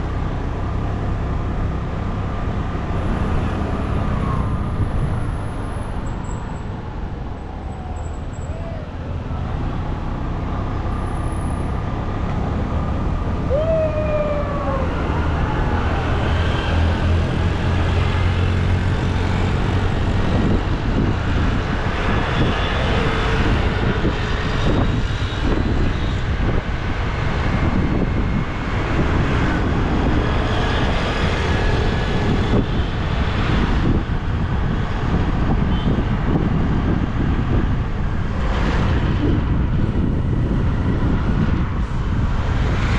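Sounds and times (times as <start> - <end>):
road and traffic noise: 0.0 - 42.9.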